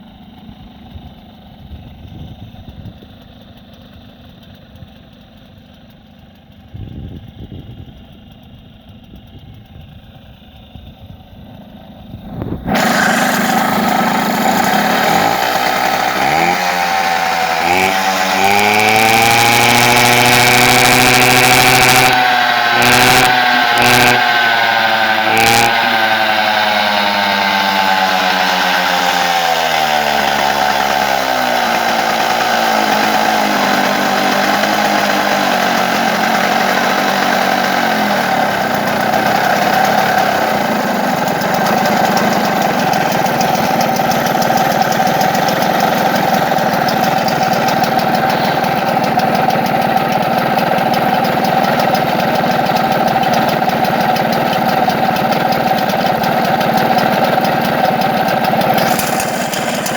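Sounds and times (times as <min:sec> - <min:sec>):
engine revving then idling: 0:00.0 - 0:59.9.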